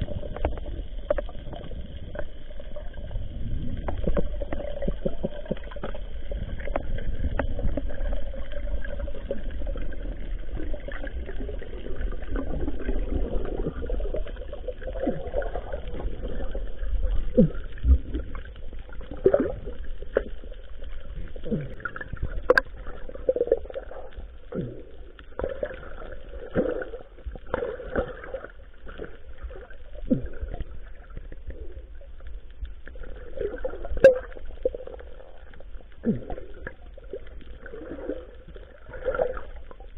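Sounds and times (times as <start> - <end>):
underwater rumble of water: 0.0 - 39.9.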